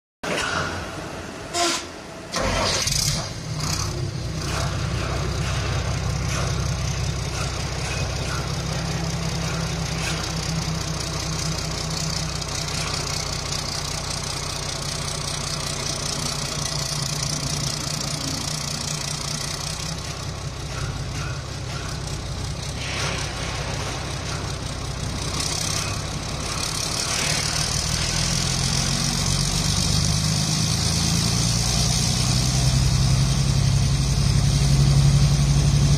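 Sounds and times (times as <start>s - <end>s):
diesel engine starting and running: 0.2s - 35.9s.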